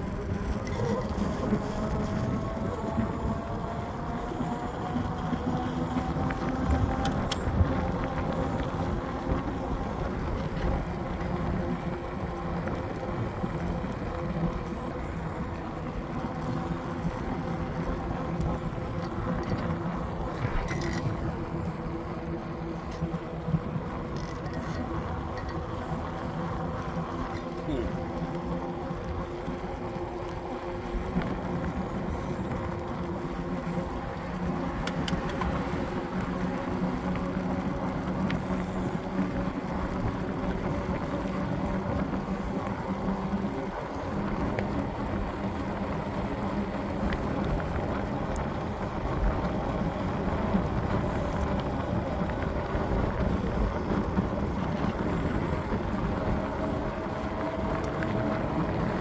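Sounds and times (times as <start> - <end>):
engine running steadily: 0.0 - 59.0
wind noise on microphone: 0.0 - 59.0.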